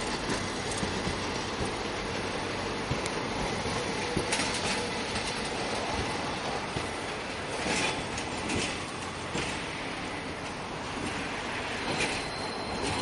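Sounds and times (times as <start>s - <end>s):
streetcar rolling rumble: 0.0s - 13.0s.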